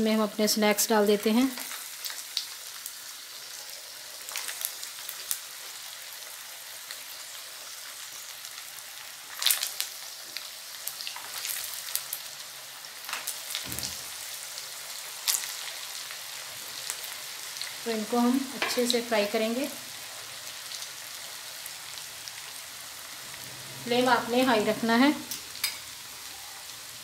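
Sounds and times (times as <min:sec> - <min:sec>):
dough deep-frying in hot oil: 0:00.0 - 0:27.0.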